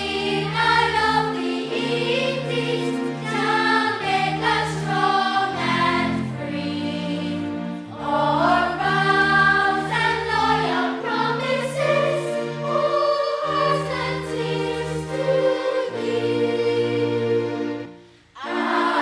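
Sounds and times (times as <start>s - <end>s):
choir singing held notes: 0.0s - 19.0s
low steady accompaniment: 0.0s - 19.0s.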